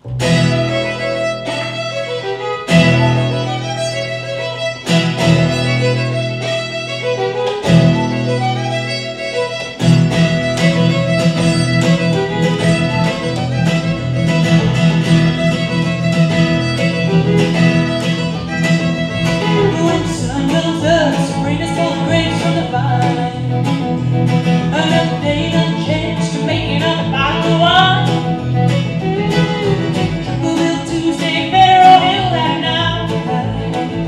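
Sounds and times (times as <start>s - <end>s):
fiddle bowed notes: 0.0s - 34.0s
strummed acoustic guitar: 0.0s - 34.0s
upright bass: 0.0s - 34.0s.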